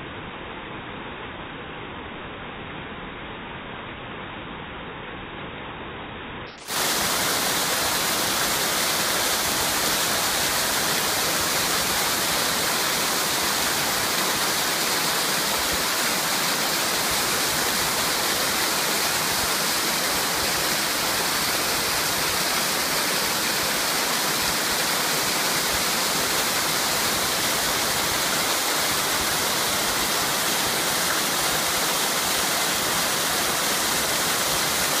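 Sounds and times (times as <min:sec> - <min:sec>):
waterfall rushing: 0:06.6 - 0:35.0.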